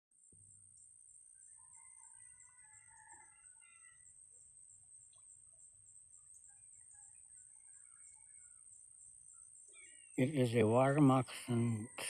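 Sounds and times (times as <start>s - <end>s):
small birds chirping: 1.5s - 12.0s.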